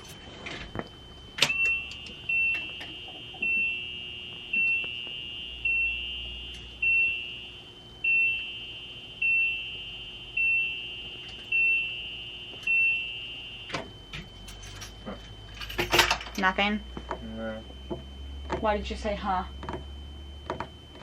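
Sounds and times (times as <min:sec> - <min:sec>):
electronic warning chime beeping: 0:00.0 - 0:21.0.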